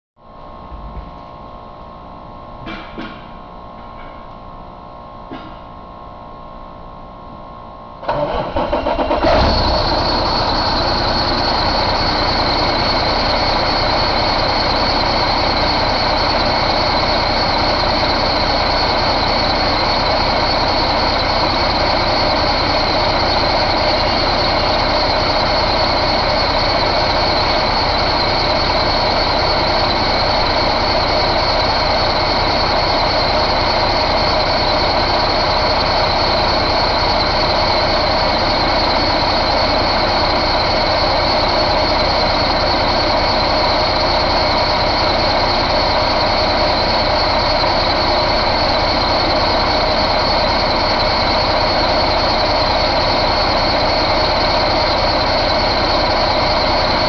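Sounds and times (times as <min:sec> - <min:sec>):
high-pitched whine: 0:00.2 - 0:57.0
diesel engine running: 0:08.0 - 0:57.0.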